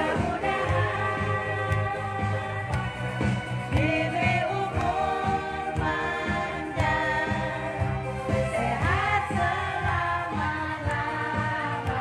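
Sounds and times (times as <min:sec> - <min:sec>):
amplified backing music with beat: 0:00.0 - 0:12.0
woman singing into a microphone: 0:00.0 - 0:12.0.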